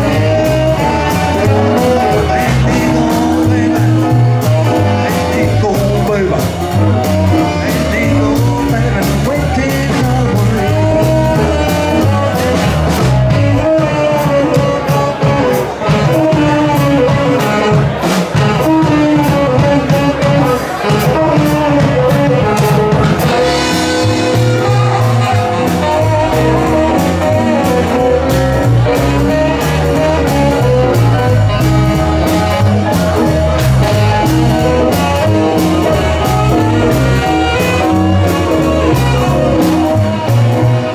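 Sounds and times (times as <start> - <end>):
band playing swing music: 0.0 - 40.9.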